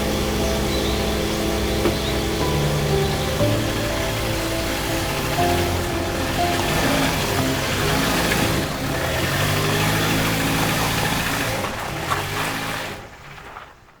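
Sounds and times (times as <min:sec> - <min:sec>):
vehicle engine idling: 0:00.0 - 0:13.3
rain hissing: 0:00.0 - 0:13.4.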